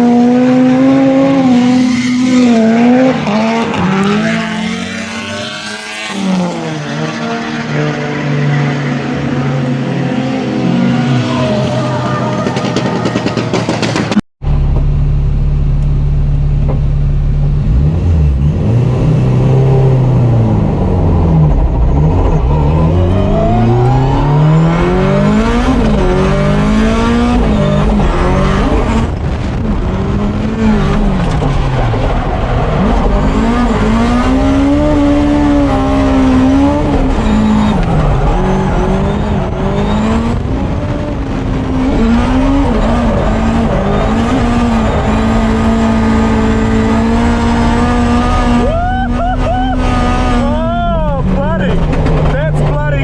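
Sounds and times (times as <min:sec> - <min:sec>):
car engine revving hard: 0:00.0 - 0:14.2, 0:17.6 - 0:53.0.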